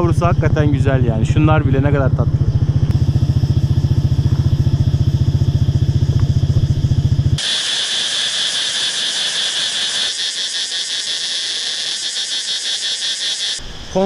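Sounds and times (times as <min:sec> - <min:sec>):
motorbike engine running: 0:00.0 - 0:12.8
insect trilling: 0:02.4 - 0:14.0.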